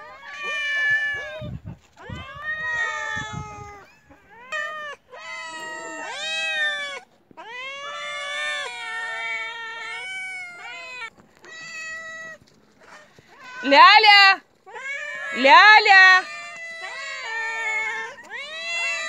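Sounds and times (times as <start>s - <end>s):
cats meowing: 0.0s - 19.0s.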